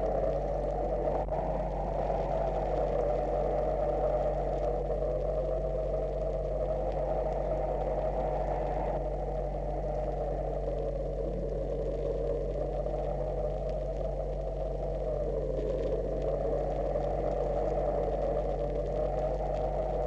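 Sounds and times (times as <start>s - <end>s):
electrical mains hum: 0.0s - 20.0s
steady drone: 0.0s - 20.0s.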